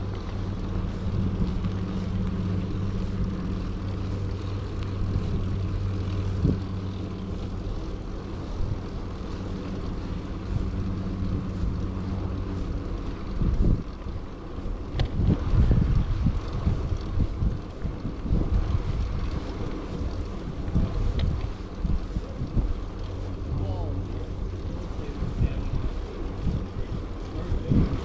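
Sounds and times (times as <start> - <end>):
propeller aircraft engine drone: 0.0 - 28.0
wind noise on microphone: 0.0 - 28.0.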